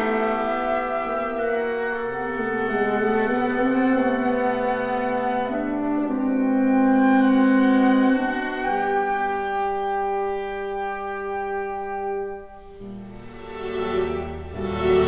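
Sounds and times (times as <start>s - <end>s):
orchestral strings: 0.0s - 15.0s.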